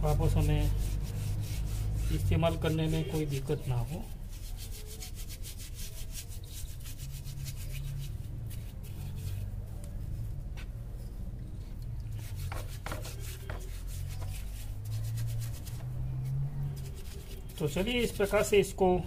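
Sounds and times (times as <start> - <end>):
rapid scrubbing strokes: 0.1 - 10.3, 12.0 - 19.0.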